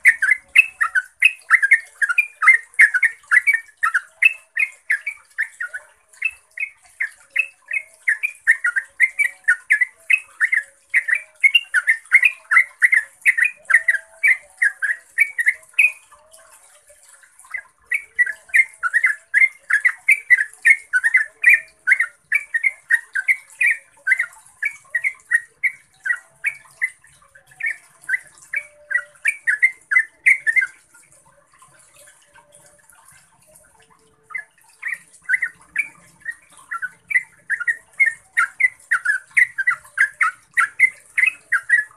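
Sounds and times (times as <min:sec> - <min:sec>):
bulbul singing bubbly notes: 0:00.0 - 0:41.9.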